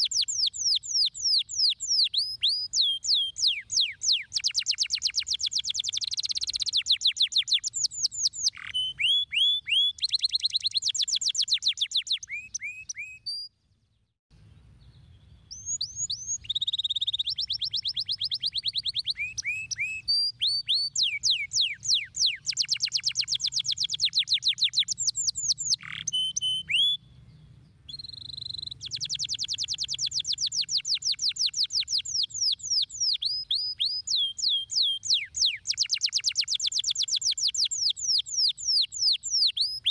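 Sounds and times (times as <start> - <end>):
canary singing trills: 0.0 - 13.5, 14.8 - 39.9.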